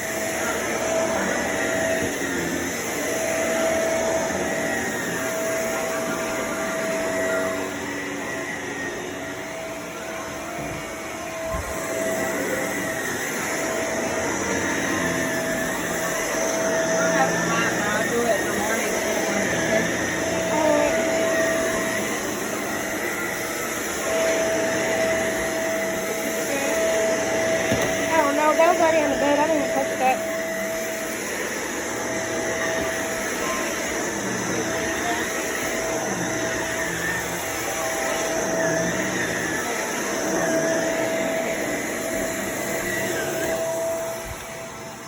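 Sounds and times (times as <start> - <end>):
vacuum cleaner whining: 0.0 - 45.0.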